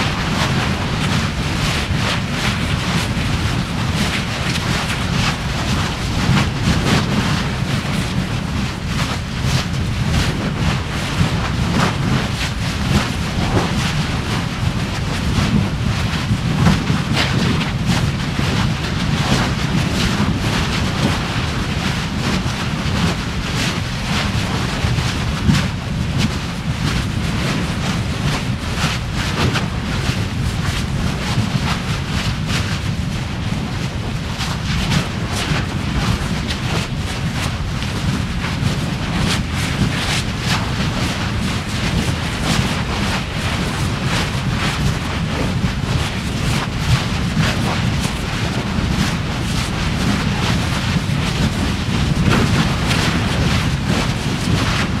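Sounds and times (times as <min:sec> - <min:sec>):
eruption low rumble: 0:00.0 - 0:55.0
wind buffeting microphone: 0:00.0 - 0:55.0.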